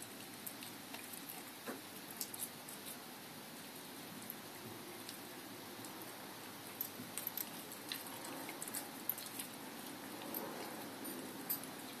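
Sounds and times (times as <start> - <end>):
puppy chewing raw meat: 0.0 - 12.0.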